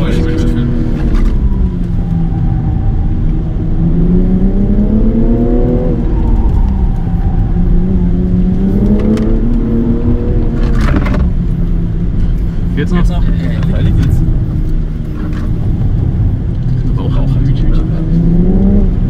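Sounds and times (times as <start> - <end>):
car engine revving: 0.0 - 19.0
road and tyre rumble: 0.0 - 19.0.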